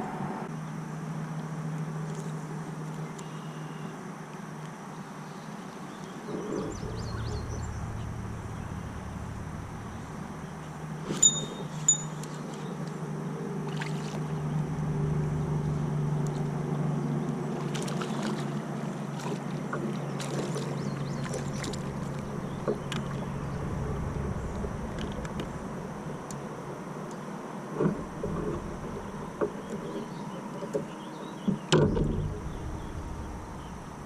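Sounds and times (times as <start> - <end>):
low motor hum: 5.4 - 34.0.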